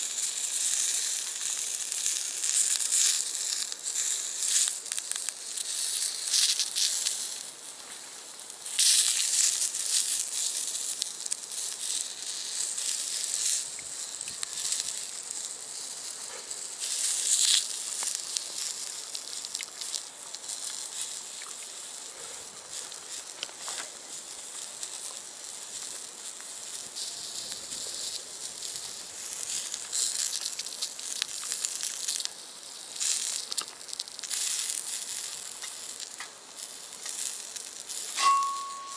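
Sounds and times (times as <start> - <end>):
food sizzling in a skillet: 0.0 - 38.9
wood fire crackles: 0.0 - 38.9.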